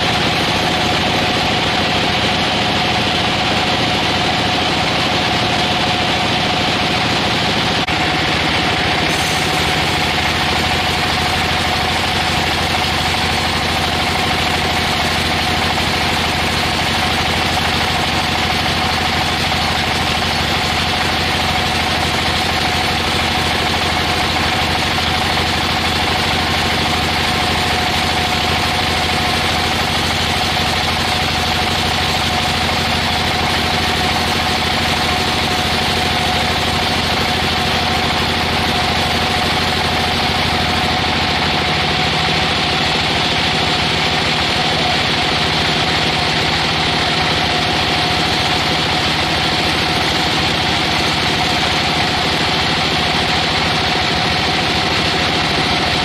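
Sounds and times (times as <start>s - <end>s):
sawmill saw droning: 0.0s - 56.0s.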